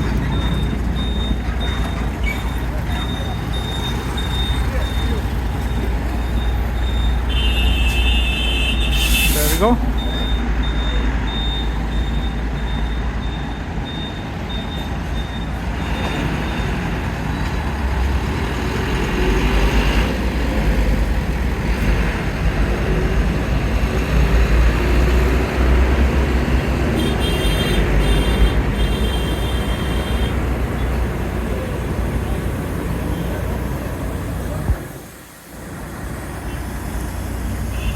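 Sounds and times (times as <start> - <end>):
vehicle engines rumbling: 0.0 - 37.9.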